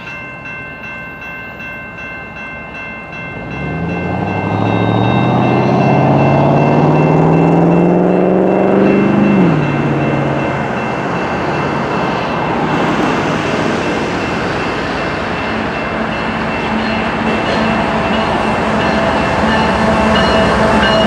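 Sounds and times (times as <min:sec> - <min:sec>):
rumble of passing train: 0:00.0 - 0:21.0.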